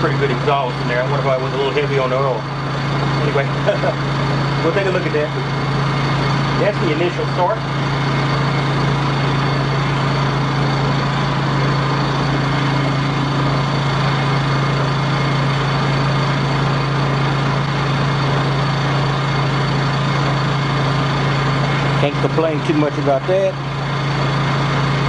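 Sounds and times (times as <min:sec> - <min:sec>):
generator engine humming: 0:00.0 - 0:25.0.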